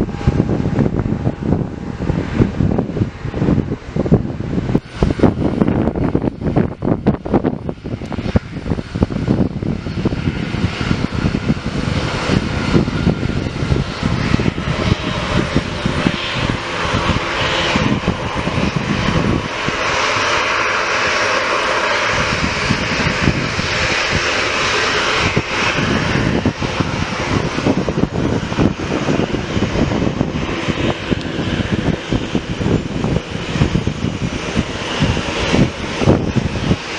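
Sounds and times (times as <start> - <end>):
airliner engines rumbling: 0.0 - 36.9
rushing noise: 0.0 - 36.9.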